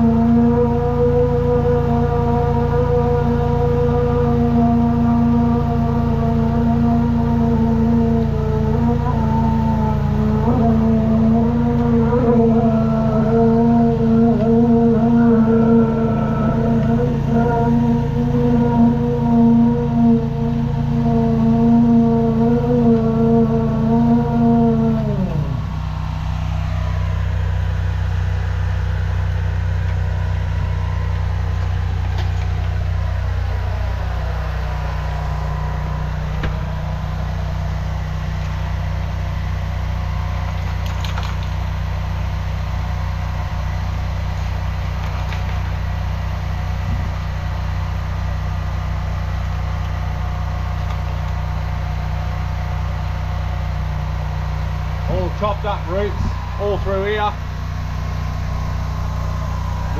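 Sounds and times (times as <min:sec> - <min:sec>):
drain jetter engine idling: 0:00.0 - 0:59.9.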